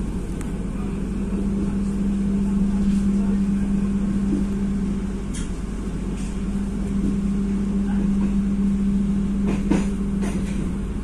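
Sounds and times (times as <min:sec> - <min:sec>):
train running drone: 0:00.0 - 0:11.0.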